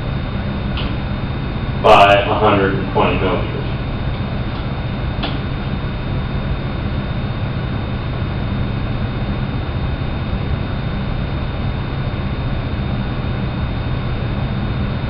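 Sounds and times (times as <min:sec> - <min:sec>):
low hum: 0:00.0 - 0:15.0
thin high whine: 0:00.0 - 0:15.0.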